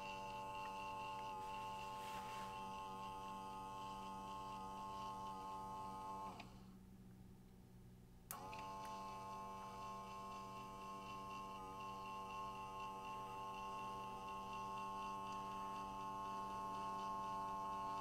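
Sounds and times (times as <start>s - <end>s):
electric gear motor whining: 0.0s - 6.5s, 8.3s - 18.0s.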